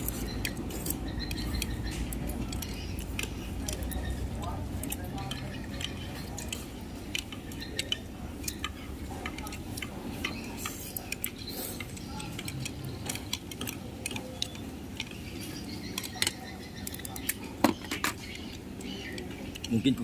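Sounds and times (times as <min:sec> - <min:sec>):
low background hum: 0:00.0 - 0:20.0
utensils clinking on plates: 0:00.0 - 0:20.0.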